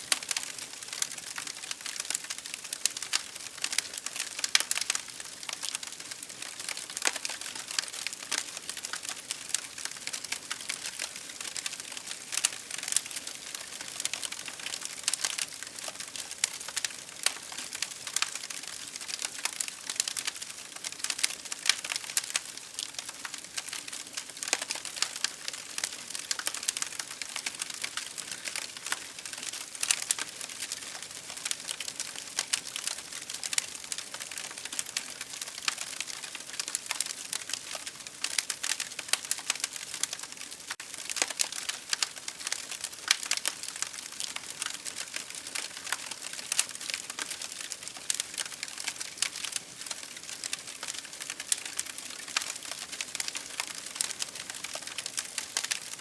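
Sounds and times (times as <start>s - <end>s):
campfire wood crackling: 0.0s - 56.0s.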